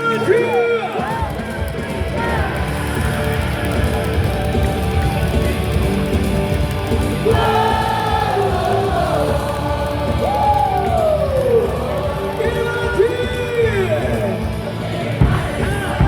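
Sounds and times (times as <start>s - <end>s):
crowd singing and shouting: 0.0s - 16.0s
music over loudspeakers: 0.0s - 16.0s.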